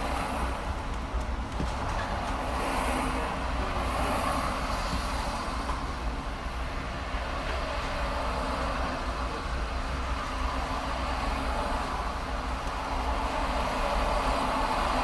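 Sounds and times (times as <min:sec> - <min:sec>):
traffic road noise: 0:00.0 - 0:15.0.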